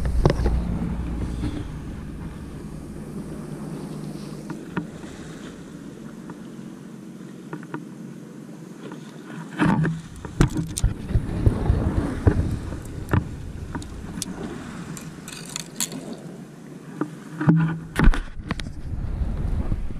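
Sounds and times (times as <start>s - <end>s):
water: 0.0s - 19.9s
wind: 0.0s - 19.9s.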